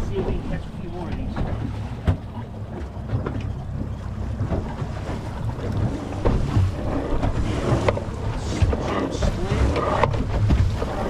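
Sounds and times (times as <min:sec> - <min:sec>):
water lapping against boat hull: 0:00.0 - 0:11.0
wind buffeting microphone: 0:00.0 - 0:11.0.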